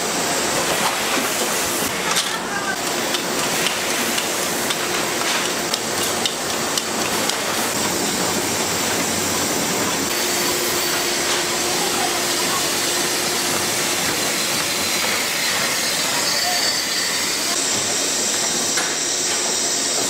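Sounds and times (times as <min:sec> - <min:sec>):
production line machinery hissing: 0:00.0 - 0:20.0.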